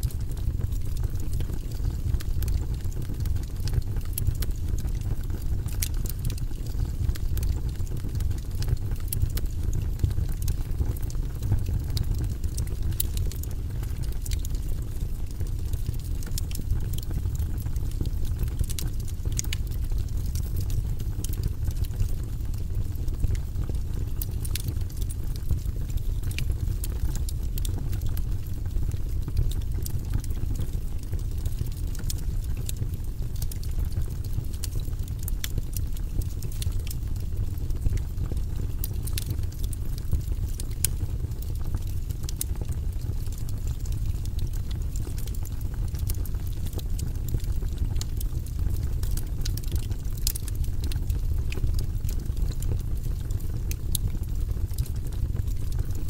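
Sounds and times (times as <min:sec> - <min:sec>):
fire low rumble: 0:00.0 - 0:56.0
wood fire crackling and popping: 0:00.0 - 0:56.0.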